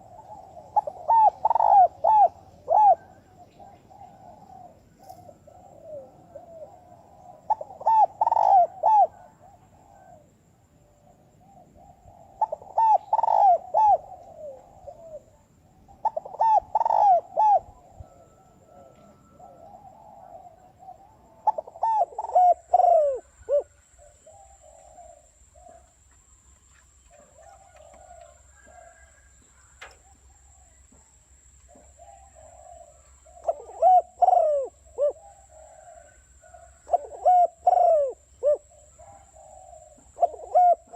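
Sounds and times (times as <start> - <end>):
dove cooing: 0.0 - 26.3, 27.0 - 40.9.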